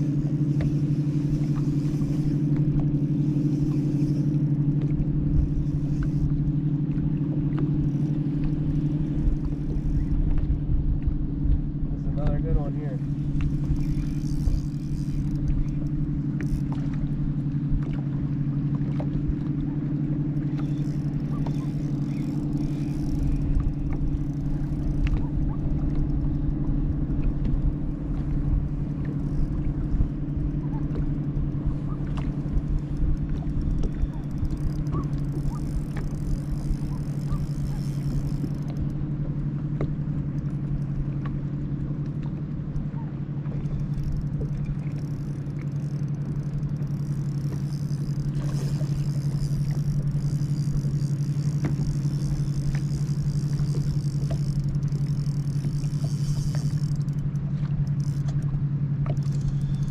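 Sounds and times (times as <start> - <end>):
boat motor humming: 0.0 - 59.9.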